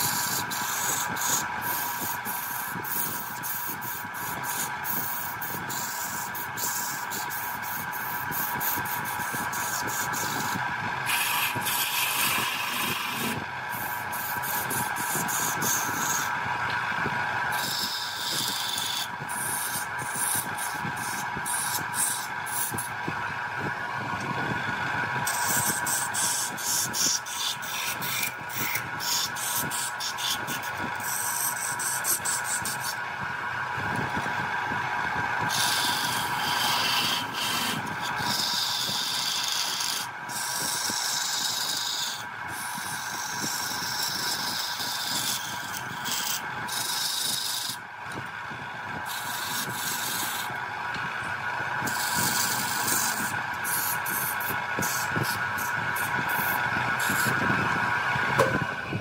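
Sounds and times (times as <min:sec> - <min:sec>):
turning tool cutting wood: 0:00.0 - 0:58.8
lathe motor hum and whine: 0:00.0 - 0:59.0.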